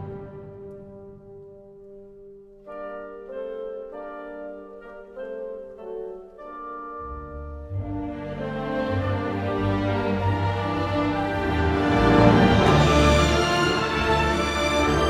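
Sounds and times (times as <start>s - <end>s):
orchestral music: 0.0s - 15.0s.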